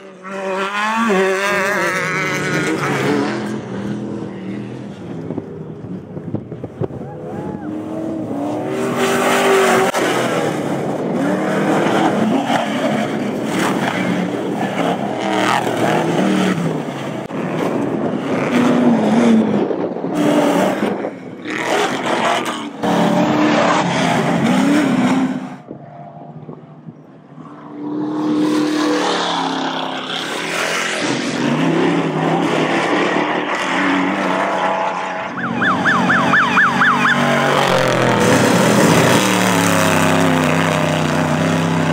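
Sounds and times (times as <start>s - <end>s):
race vehicle engines revving: 0.0s - 41.9s.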